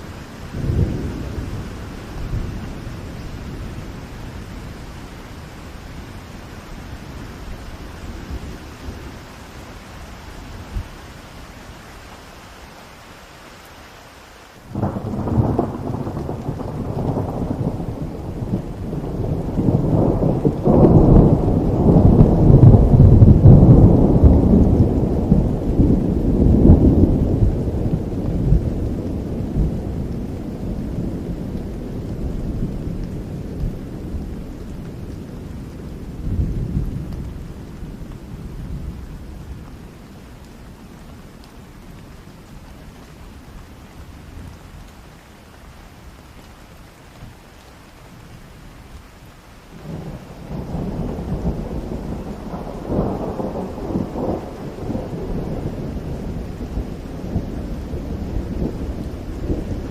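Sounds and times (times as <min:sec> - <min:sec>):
thunder rumbling: 0:00.0 - 0:11.4, 0:14.7 - 0:45.0, 0:49.7 - 0:59.9
rain falling: 0:00.0 - 0:59.9.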